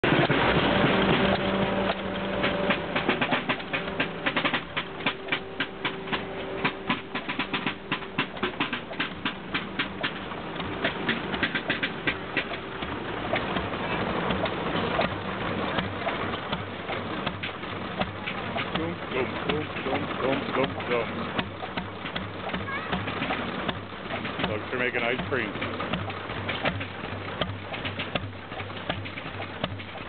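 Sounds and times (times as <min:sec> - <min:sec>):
low machine hum: 0:00.0 - 0:30.0
machinery clattering: 0:00.0 - 0:30.0.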